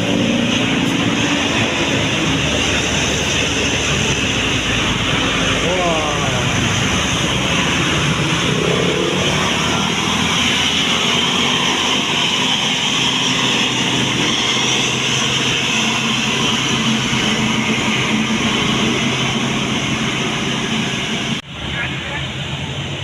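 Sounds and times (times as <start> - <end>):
bus engine and tyre noise: 0.0 - 23.0.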